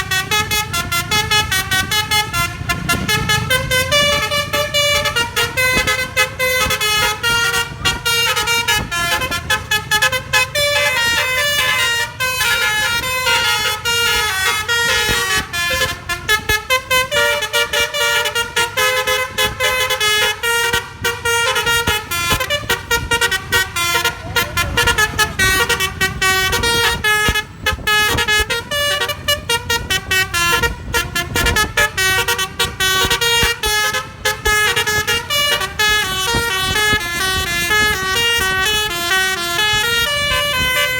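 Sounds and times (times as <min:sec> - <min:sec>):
low engine rumble: 0:00.0 - 0:40.9
musical bus horn: 0:00.0 - 0:40.9.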